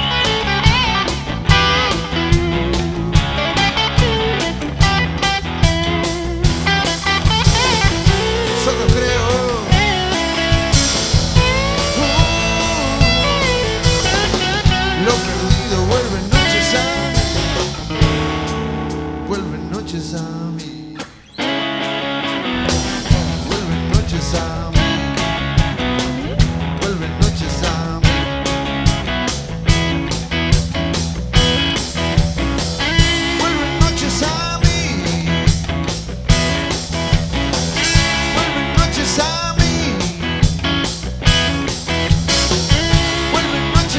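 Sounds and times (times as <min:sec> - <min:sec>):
bending lead guitar line: 0:00.0 - 0:43.9
rock band playing live: 0:00.0 - 0:43.9.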